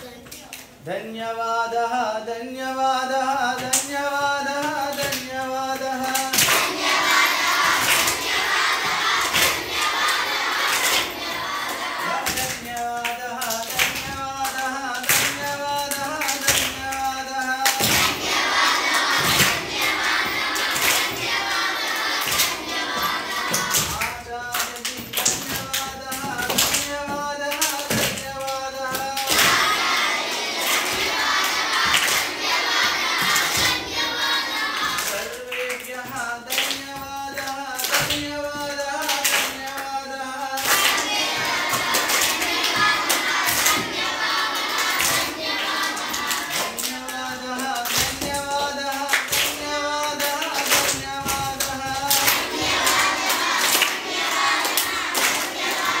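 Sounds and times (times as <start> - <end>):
children singing in unison: 3.1 - 56.0
children clapping hands: 3.6 - 56.0.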